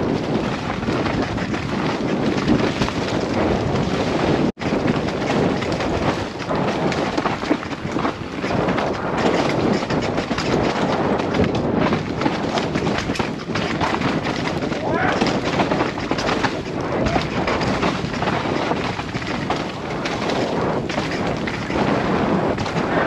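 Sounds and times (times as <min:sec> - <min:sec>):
bike rattling over bumps: 0:00.0 - 0:23.0
wind rushing over microphone: 0:00.0 - 0:23.0.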